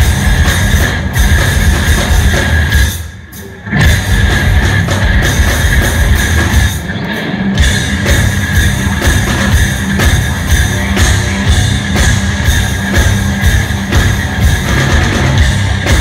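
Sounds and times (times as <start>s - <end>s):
hard rock band playing: 0.0s - 16.0s.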